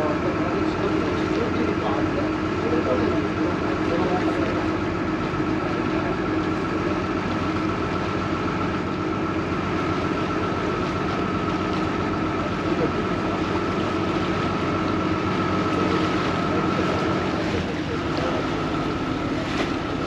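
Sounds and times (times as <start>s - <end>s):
boat engine droning: 0.0s - 20.0s
thin steady whine: 0.0s - 20.0s.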